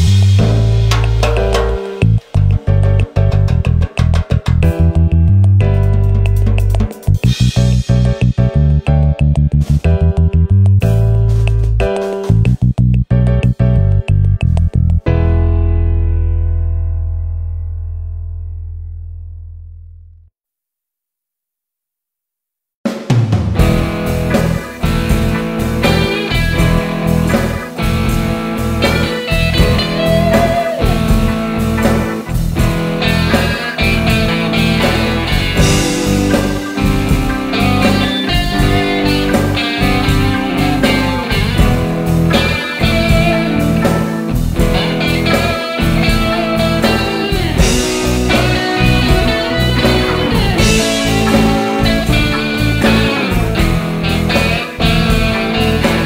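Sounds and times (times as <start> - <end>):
blues rock band music: 0.0 - 15.8, 23.0 - 56.0
steady bass pulse: 0.0 - 20.3, 23.6 - 56.0.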